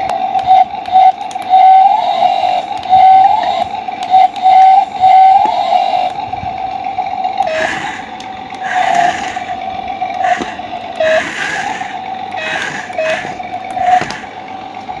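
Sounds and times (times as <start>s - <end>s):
steady high hum: 0.0s - 15.0s
toy gear motors whirring: 0.0s - 15.0s.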